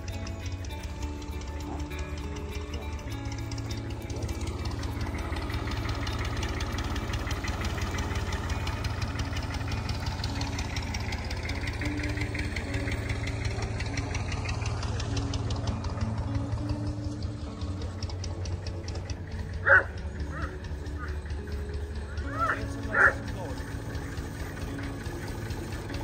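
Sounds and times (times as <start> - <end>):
engine idling with rapid pulsing: 0.0 - 26.0.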